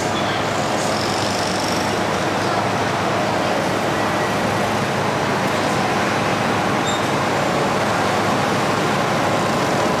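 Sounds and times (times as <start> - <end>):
city road traffic hum: 0.0 - 10.0.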